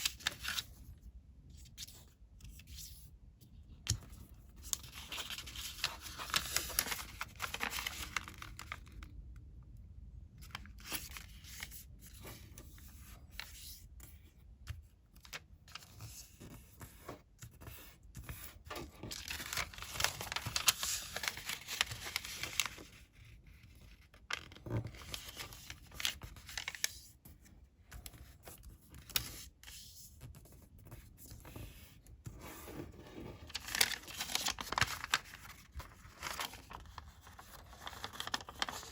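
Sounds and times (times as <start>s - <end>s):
paper being folded and creased: 0.0s - 0.9s, 3.8s - 9.1s, 10.4s - 27.2s, 27.9s - 38.9s.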